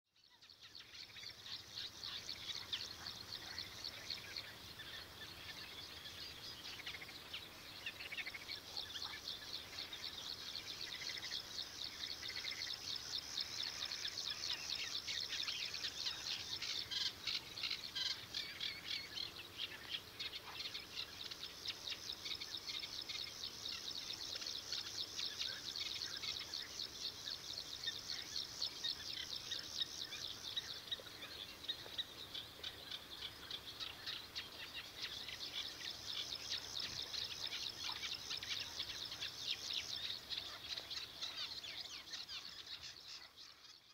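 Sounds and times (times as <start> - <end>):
birds chirping: 0.1 - 43.9.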